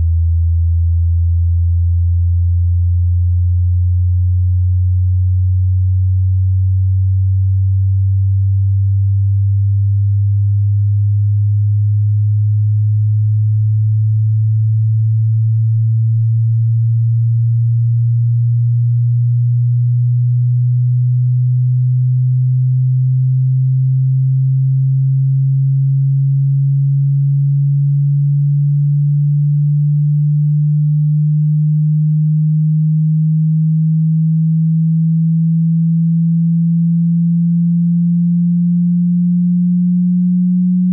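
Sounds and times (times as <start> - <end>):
sine tone gliding upward: 7.0 - 40.9.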